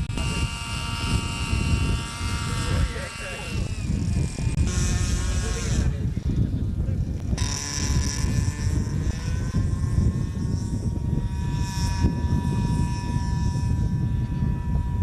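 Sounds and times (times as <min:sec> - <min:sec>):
model airplane engine droning: 0:00.0 - 0:15.0.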